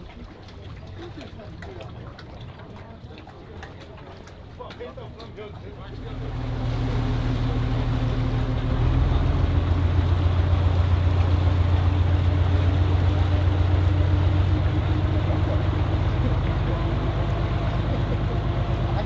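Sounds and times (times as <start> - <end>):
boat engine pulsing: 0.0 - 19.0.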